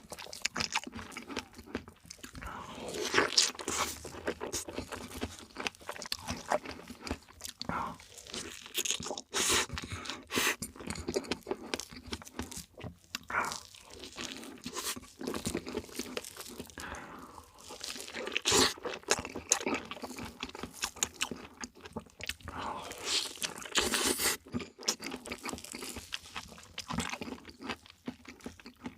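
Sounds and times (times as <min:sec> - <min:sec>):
person chewing and biting cake: 0:00.0 - 0:28.9.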